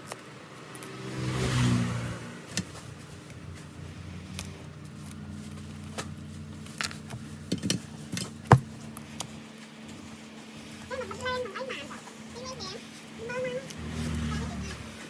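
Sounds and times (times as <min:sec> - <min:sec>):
steady low hum: 0:02.2 - 0:15.0.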